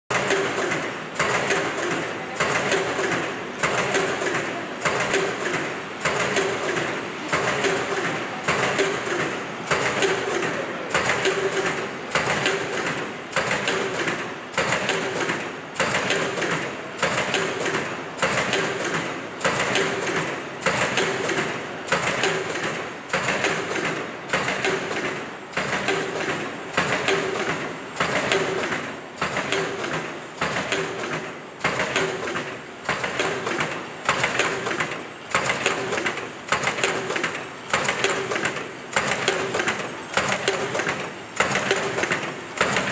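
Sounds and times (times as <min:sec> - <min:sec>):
machine clattering in cycle: 0:00.1 - 0:42.9.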